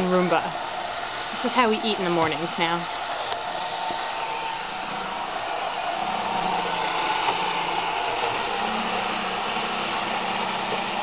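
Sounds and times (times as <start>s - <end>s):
robot vacuum whirring: 0.0s - 11.0s.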